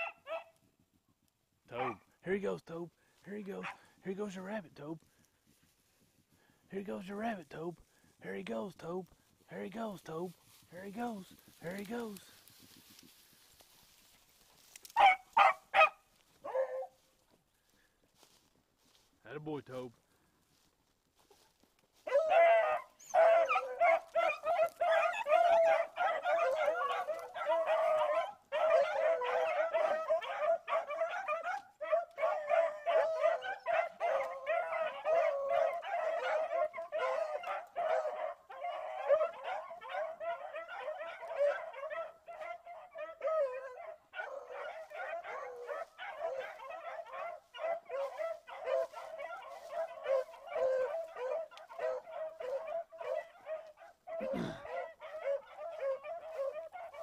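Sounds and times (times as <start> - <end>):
hounds baying and yelping: 0.0 - 0.8, 1.7 - 2.4, 3.1 - 8.4, 9.6 - 19.1, 21.2 - 57.0.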